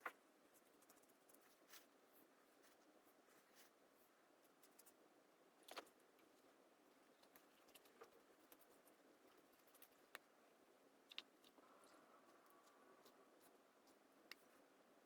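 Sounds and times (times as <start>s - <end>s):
faint clicks and scratches: 0.0s - 15.0s.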